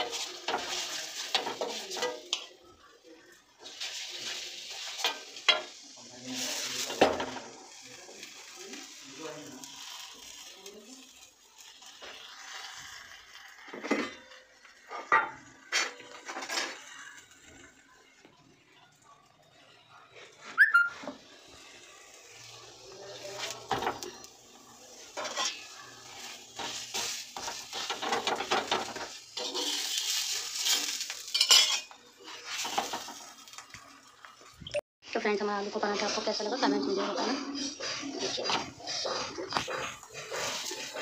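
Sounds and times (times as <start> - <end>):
flatbread frying in pan: 0.0 - 19.5, 20.1 - 34.6, 38.1 - 41.0.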